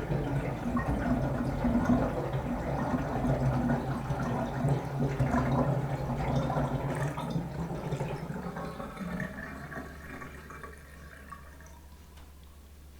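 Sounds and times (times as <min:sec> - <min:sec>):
drain gurgling: 0:00.0 - 0:11.9.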